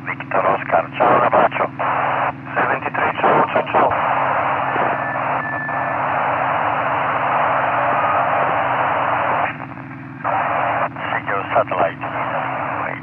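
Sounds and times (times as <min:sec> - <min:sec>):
radio hiss: 0:00.0 - 0:13.0
low hum: 0:01.7 - 0:13.0.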